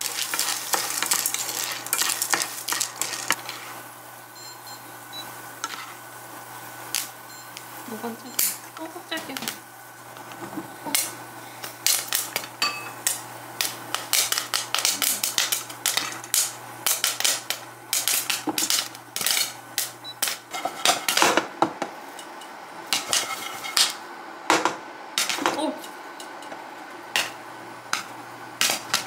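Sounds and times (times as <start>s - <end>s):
popcorn popping: 0.0s - 3.8s, 6.8s - 29.0s.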